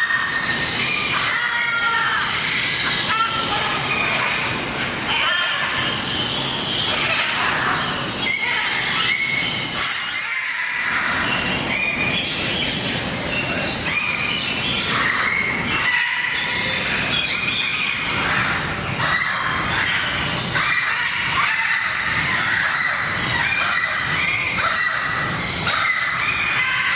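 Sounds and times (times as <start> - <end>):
birds squawking and whistling: 0.0 - 26.9.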